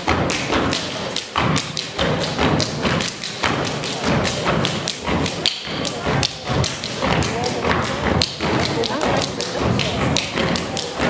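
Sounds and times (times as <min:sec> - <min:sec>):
stomping and clapping: 0:00.0 - 0:11.0.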